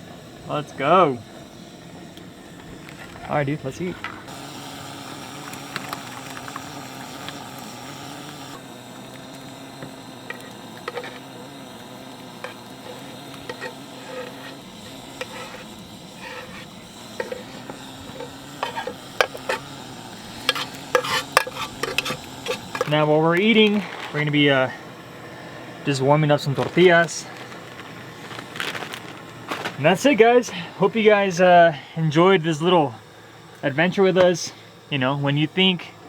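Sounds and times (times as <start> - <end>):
pot simmering and sizzling: 0.0 - 31.5.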